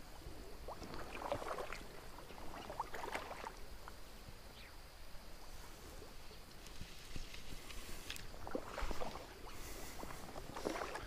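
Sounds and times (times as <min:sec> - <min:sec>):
light water movement: 0:00.0 - 0:11.0.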